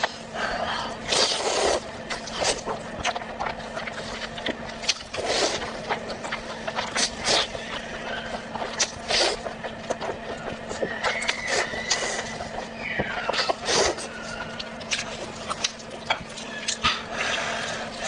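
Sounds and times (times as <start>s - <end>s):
faint steady hum: 0.0s - 18.0s
wet chewing and smacking: 0.0s - 18.0s.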